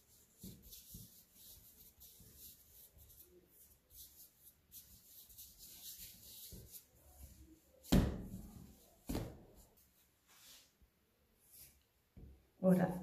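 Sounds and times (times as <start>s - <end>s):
dough rubbing on worktop: 0.0s - 10.8s.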